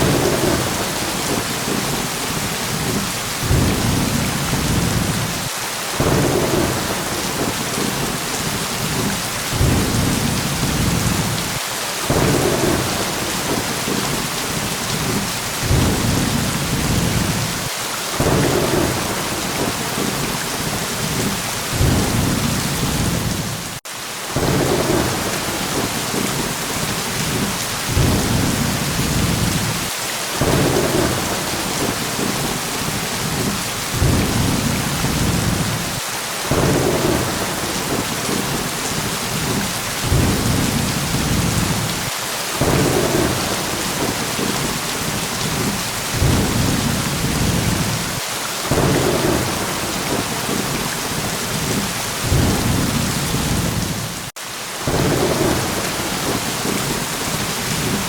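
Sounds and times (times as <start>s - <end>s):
thunder rumbling: 0.0s - 23.8s, 24.4s - 58.0s
heavy rain: 0.0s - 58.0s.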